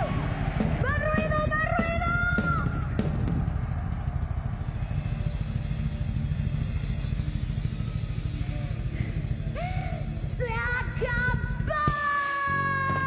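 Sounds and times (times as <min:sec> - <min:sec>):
pulsing drums and bass: 0:00.0 - 0:13.0.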